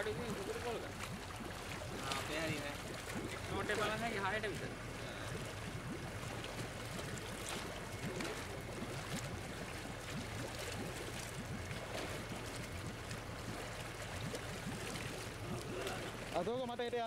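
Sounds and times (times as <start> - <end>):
water splashing and dripping: 0.0 - 17.0.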